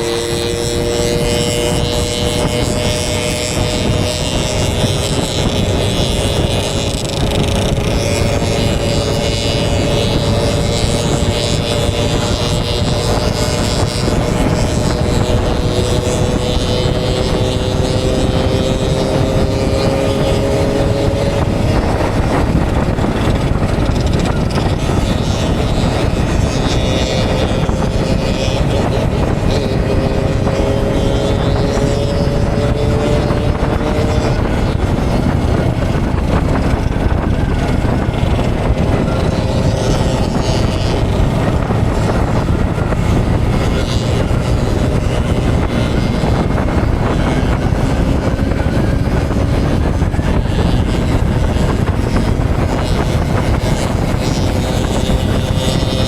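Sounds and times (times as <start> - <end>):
motorcycle engine: 0.0 - 56.0
wind rush on microphone: 0.0 - 56.0.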